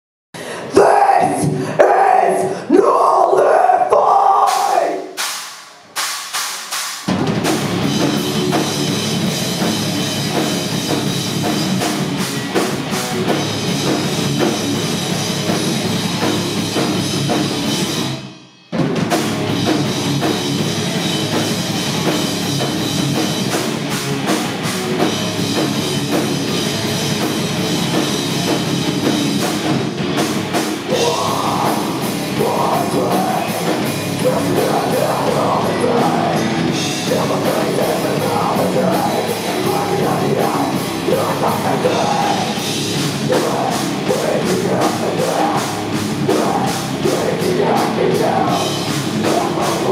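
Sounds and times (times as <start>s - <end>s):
live metal band playing: 0.4s - 5.4s, 7.0s - 49.9s.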